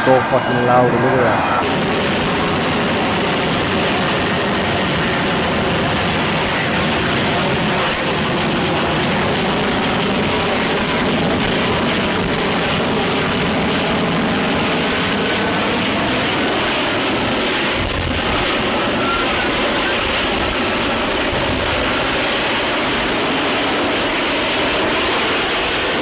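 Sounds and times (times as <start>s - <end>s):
jet engine running: 0.0s - 26.0s.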